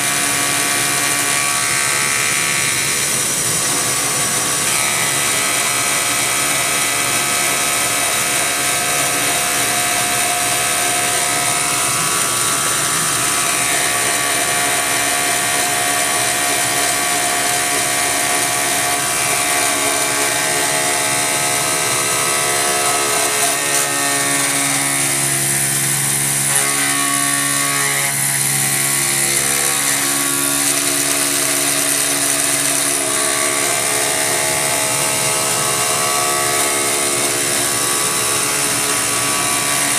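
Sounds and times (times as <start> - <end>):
metal cutting noise: 0.0 - 39.9.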